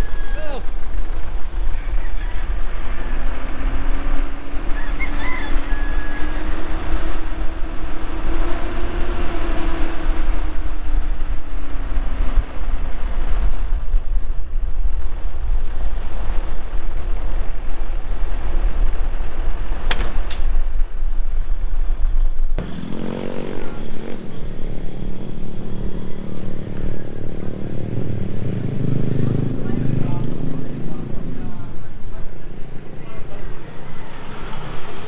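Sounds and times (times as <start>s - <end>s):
vehicle engine: 0.0s - 35.0s
wind buffeting microphone: 0.0s - 35.0s.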